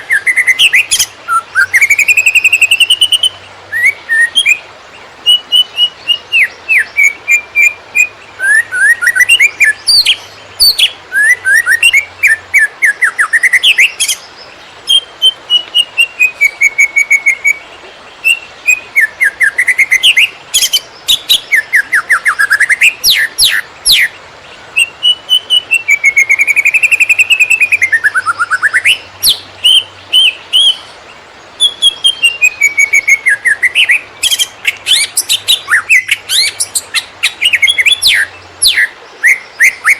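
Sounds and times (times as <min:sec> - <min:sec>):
bird singing rapid trills: 0:00.0 - 0:04.6, 0:05.2 - 0:39.9.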